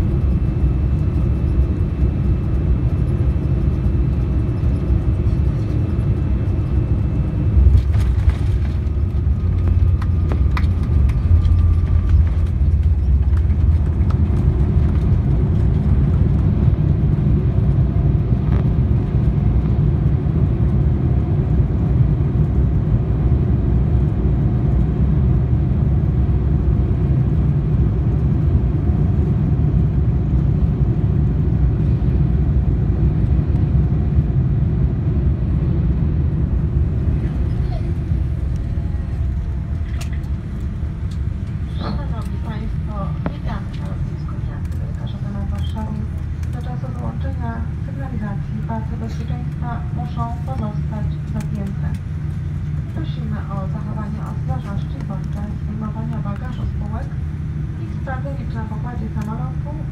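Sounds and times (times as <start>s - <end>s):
airplane engines and wheels rumbling: 0.0s - 59.9s.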